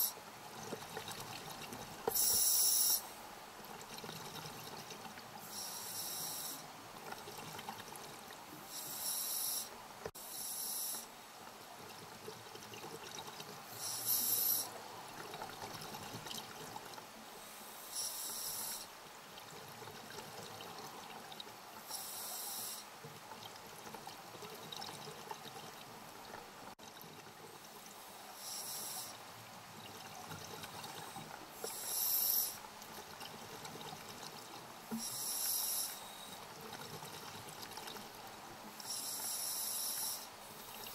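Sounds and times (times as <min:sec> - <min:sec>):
regulator hiss and bubbling: 0:00.0 - 0:40.9.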